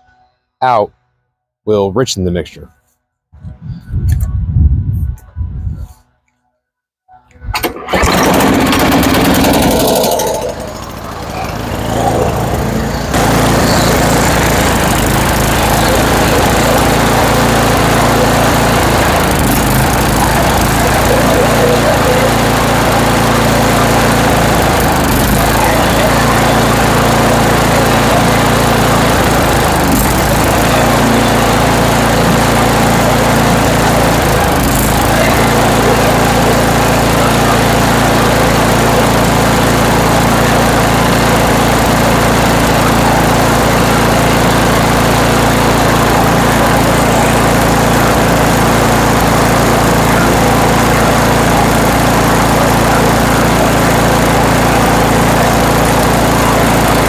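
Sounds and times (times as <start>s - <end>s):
snowblower engine running: 7.6s - 57.0s.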